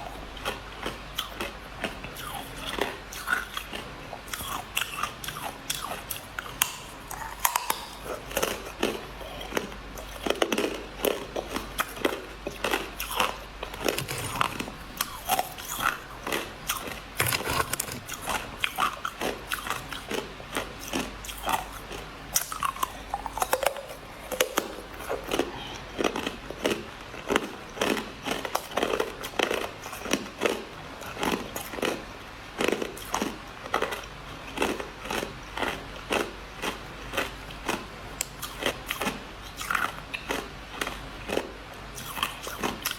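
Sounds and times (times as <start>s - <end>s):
crushed ice being chewed: 0.0s - 42.9s.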